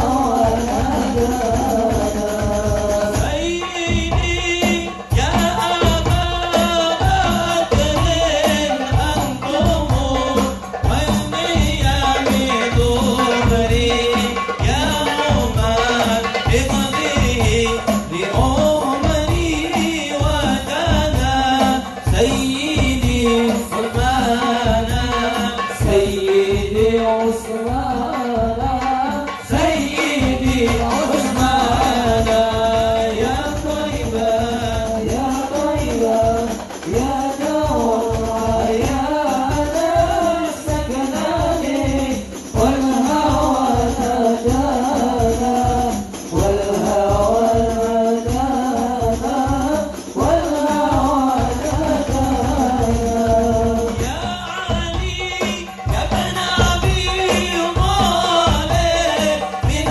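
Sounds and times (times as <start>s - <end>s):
hand-struck frame drums: 0.0s - 59.9s
person singing devotional song: 0.0s - 59.9s.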